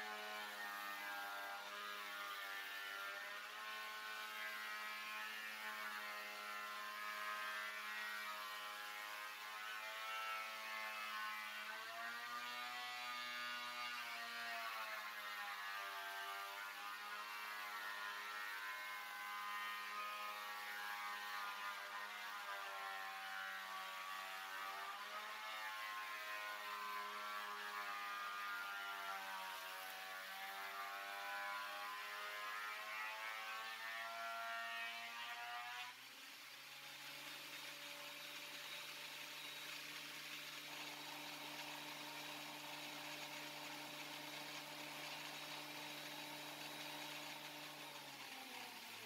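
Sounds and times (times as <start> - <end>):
thickness planer cutting wood: 0.0 - 49.0.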